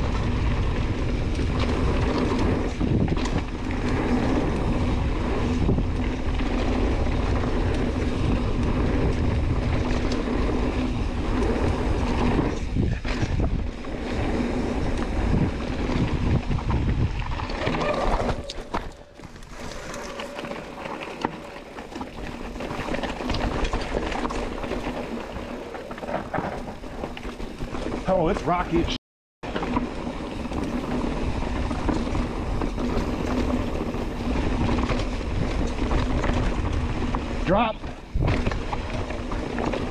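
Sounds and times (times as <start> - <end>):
bike knocks and rattles: 0.0 - 28.6, 29.4 - 39.9
wind rushing over microphone: 0.0 - 28.9, 30.1 - 39.9
bike tyres rolling over rocky trail: 0.0 - 39.9.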